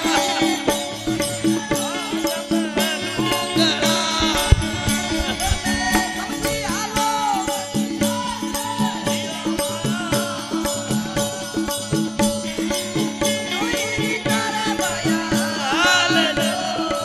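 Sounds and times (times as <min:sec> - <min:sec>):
hand cymbals struck: 0:00.0 - 0:17.0
men singing: 0:00.0 - 0:17.0.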